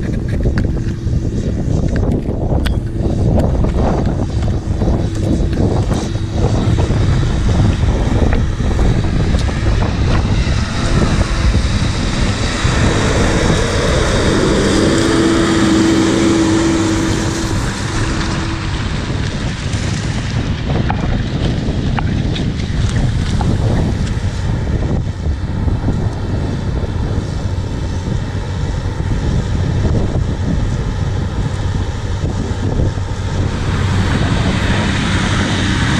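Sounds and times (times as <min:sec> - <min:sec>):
harrow discs cutting soil: 0:00.0 - 0:35.9
tractor diesel engine under load: 0:00.0 - 0:35.9
wind buffeting microphone: 0:00.0 - 0:35.9.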